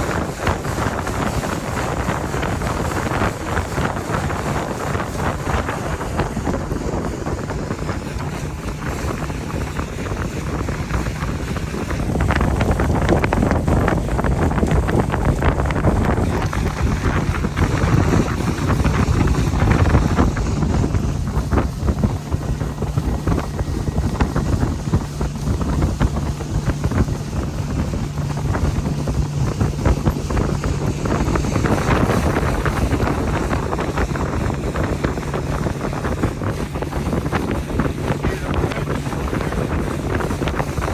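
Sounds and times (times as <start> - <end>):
motorboat engine drone: 0.0 - 40.9
wind buffeting microphone: 0.0 - 40.9.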